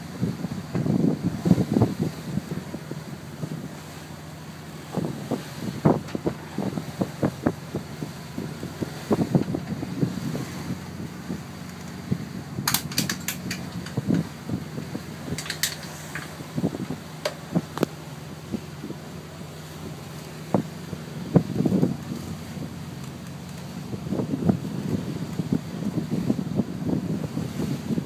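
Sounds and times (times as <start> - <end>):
motorboat engine drone: 0.0 - 28.0
wind buffeting microphone: 0.0 - 28.0.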